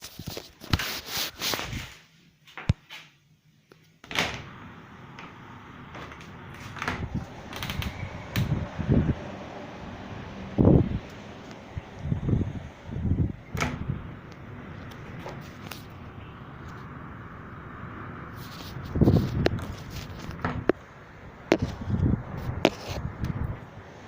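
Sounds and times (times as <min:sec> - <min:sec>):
strong wind buffeting microphone: 0:04.5 - 0:24.0.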